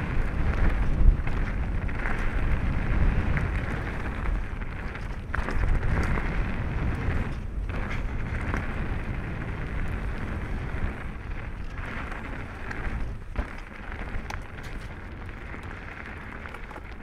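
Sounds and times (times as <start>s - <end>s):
bike tyres on gravel: 0.0s - 17.0s.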